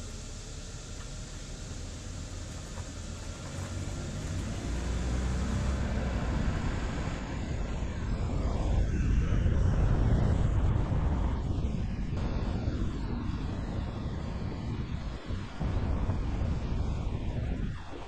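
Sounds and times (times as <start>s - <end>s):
vehicle engine and road noise: 0.0s - 17.7s.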